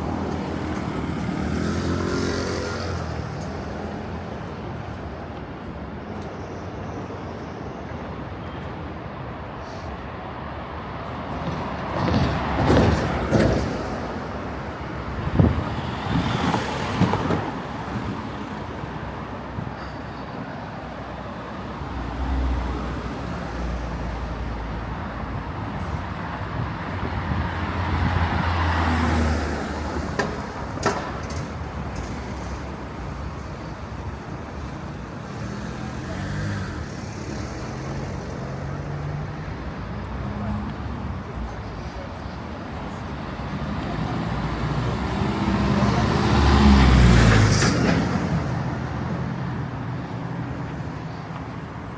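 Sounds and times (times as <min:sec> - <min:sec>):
traffic hum: 0:00.0 - 0:51.9.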